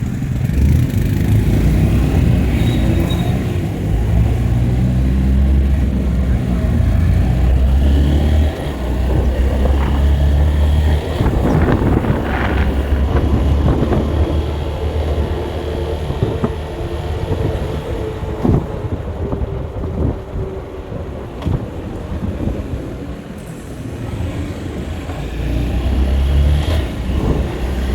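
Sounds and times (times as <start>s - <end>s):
vehicle engine and road rumble: 0.0s - 27.9s
wind noise on microphone: 0.0s - 27.9s.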